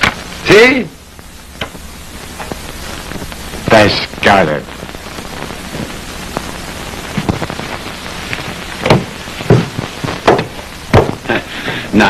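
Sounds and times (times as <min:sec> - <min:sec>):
old film hiss and crackle: 0:00.0 - 0:12.0.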